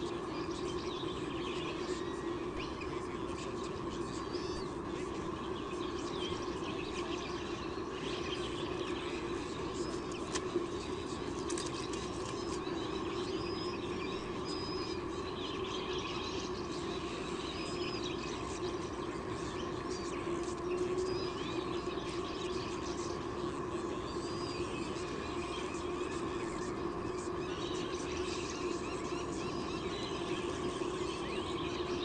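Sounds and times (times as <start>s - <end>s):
faint high bird chirps: 0.0s - 32.0s
low background hum: 0.0s - 32.0s.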